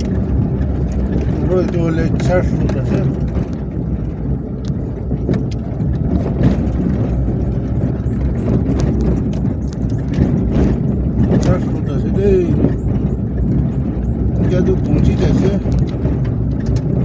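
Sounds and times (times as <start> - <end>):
knocks and rattles: 0.0 - 17.0
vehicle engine running: 0.0 - 17.0.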